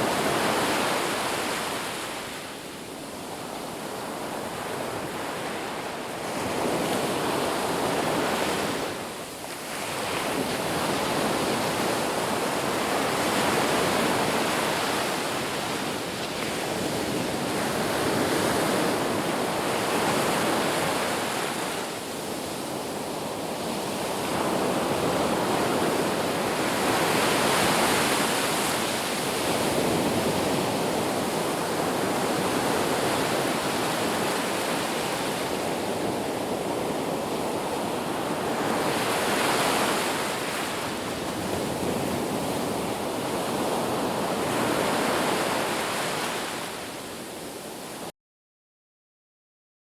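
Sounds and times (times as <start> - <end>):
ocean surf breaking on beach: 0.0 - 48.1.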